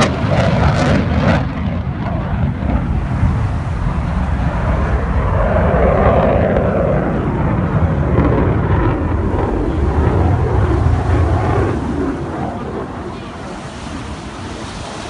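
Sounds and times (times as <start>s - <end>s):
airplane in flight: 0.0s - 15.0s.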